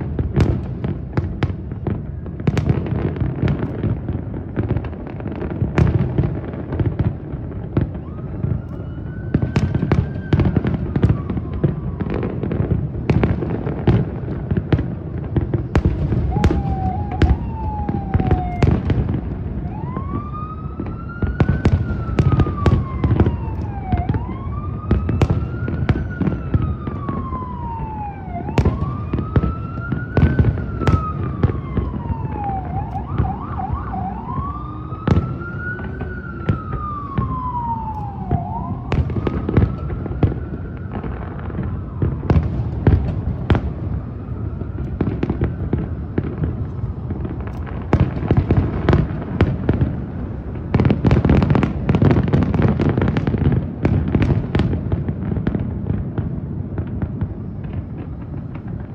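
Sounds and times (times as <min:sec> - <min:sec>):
emergency siren wailing: 0:00.0 - 0:58.9
fireworks banging: 0:00.0 - 0:58.9.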